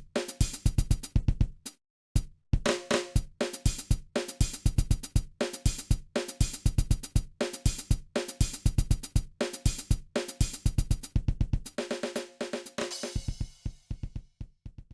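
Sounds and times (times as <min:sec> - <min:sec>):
drum kit fast beat: 0:00.0 - 0:14.6.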